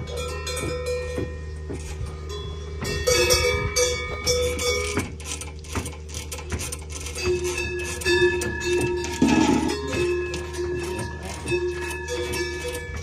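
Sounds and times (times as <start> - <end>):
cowbells clanking: 0.0 - 5.5, 6.8 - 13.0
steady low hum: 0.0 - 13.0.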